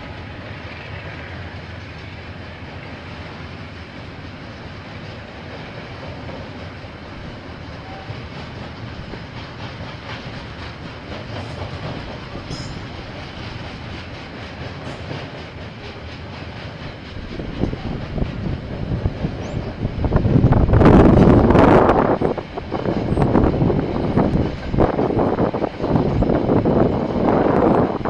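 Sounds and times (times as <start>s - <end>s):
low train rumble: 0.0s - 28.0s
train wheels clattering over rail joints: 0.3s - 28.0s.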